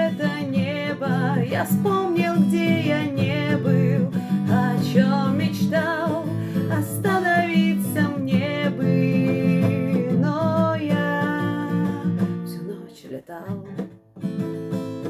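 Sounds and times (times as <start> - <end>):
acoustic guitar strumming: 0.0 - 12.9, 13.5 - 15.0
person singing: 0.0 - 13.8.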